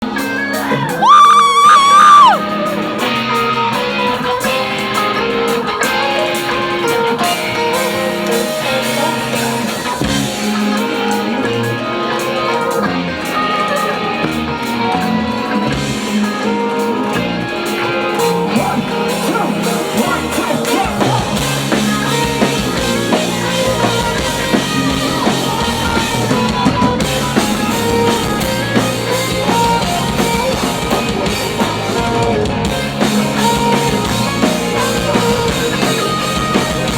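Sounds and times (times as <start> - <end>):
drum kit: 0.0 - 36.9
guitar: 0.0 - 36.9.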